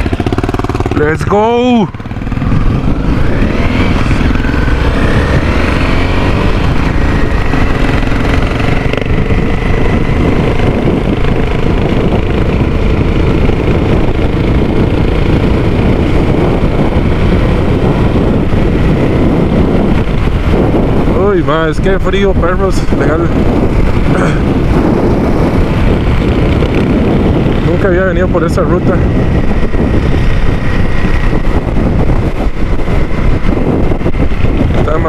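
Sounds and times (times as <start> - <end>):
motorcycle engine accelerating: 0.0 - 35.0
wind noise on microphone: 0.0 - 35.0.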